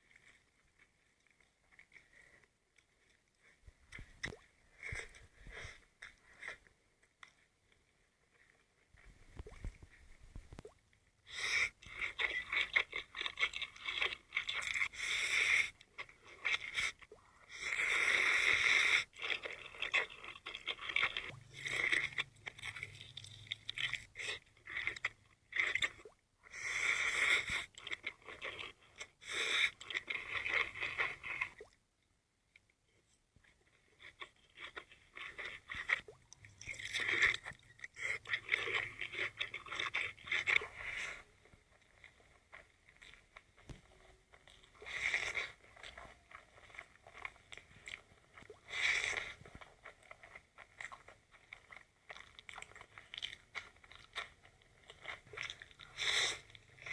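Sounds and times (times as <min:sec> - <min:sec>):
crunching and chewing: 0:00.0 - 0:26.2, 0:26.9 - 0:31.8, 0:32.5 - 0:56.9.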